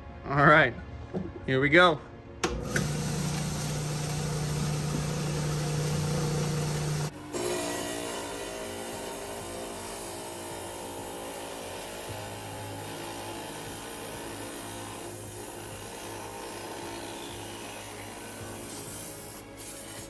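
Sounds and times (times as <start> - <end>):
saw cutting through stone: 2.6 - 19.6.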